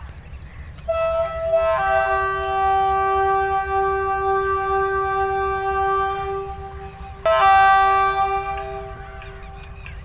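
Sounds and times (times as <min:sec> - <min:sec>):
locomotive air horn blast: 0:00.9 - 0:09.6.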